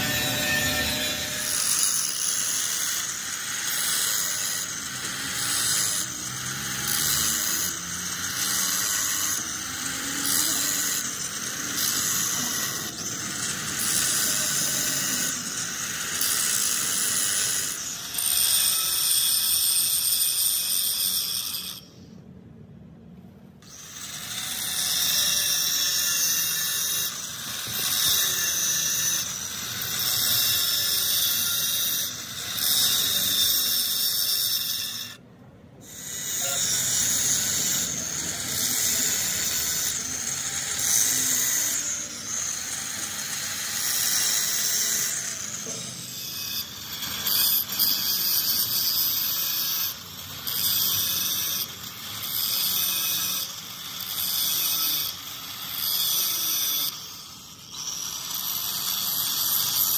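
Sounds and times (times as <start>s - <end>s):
grinder on metal: 0.0s - 22.3s, 23.5s - 59.9s.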